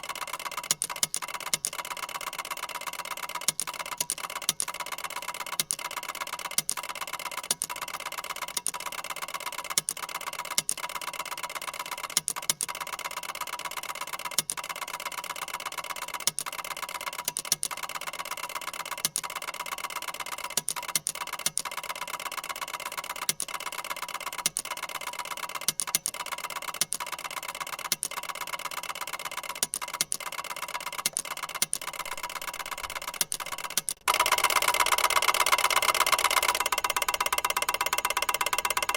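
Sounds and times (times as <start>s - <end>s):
sharp machine clicks: 0.0s - 38.9s
ticker tape machine chattering: 0.0s - 38.9s.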